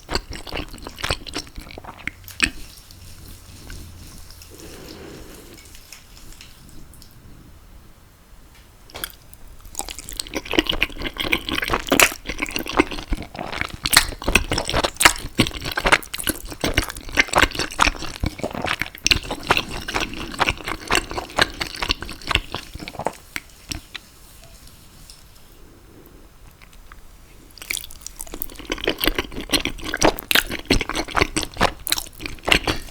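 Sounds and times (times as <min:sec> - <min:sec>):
wet chewing: 0:00.0 - 0:07.2, 0:08.9 - 0:25.2, 0:26.4 - 0:32.9.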